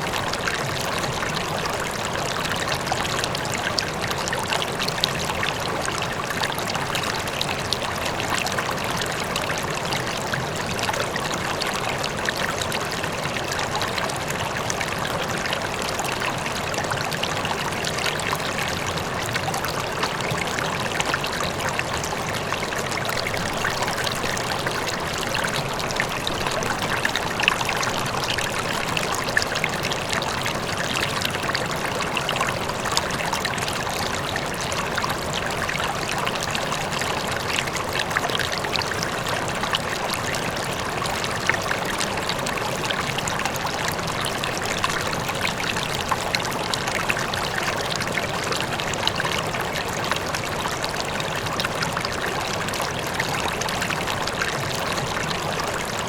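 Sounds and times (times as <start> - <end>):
faint waterfall: 0.0 - 56.0
river water rushing: 10.4 - 56.0.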